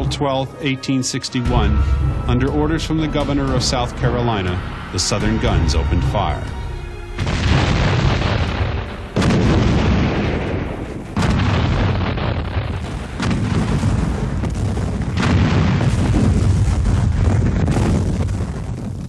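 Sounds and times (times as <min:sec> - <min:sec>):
heavy cannon booms: 0:01.4 - 0:19.0.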